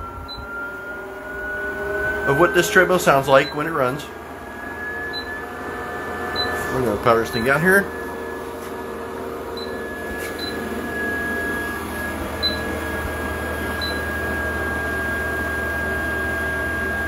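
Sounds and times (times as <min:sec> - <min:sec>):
treadmill motor whine: 0:00.0 - 0:17.0.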